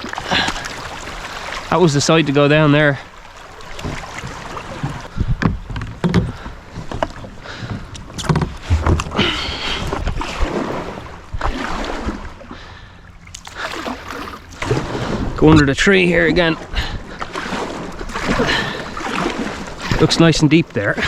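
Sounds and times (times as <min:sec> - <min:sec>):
kayak knocks and thuds: 0:00.0 - 0:12.4, 0:13.3 - 0:21.0
paddle splashing into water: 0:00.0 - 0:12.6, 0:13.2 - 0:15.7, 0:16.3 - 0:21.0.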